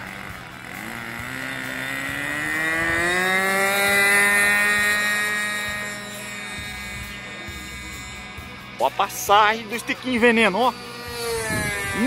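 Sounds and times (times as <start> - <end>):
model airplane engine throttling up: 0.0 - 12.0.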